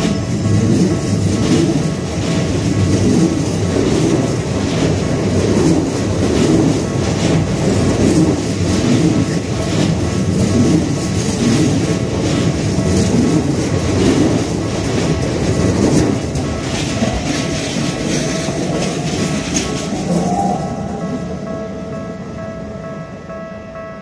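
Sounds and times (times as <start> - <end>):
train wheels clattering: 0.0 - 22.7
train rolling rumble: 0.0 - 24.0.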